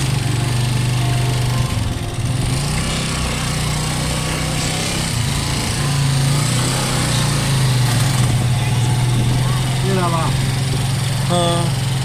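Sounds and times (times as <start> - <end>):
small motorcycle engine running: 0.0 - 12.0
wind and road noise: 1.4 - 12.0.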